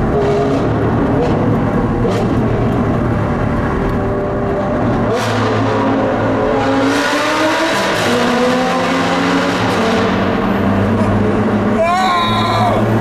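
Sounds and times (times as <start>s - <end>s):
car engine under load from inside: 0.0s - 12.0s.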